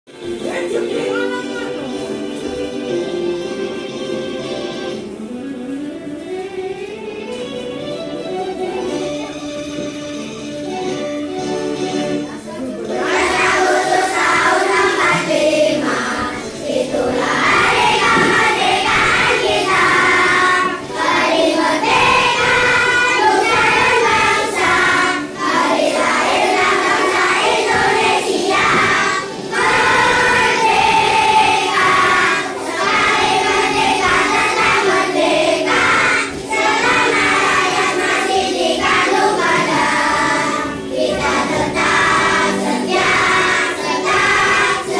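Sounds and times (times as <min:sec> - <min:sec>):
children's choir singing: 0:00.1 - 0:44.9.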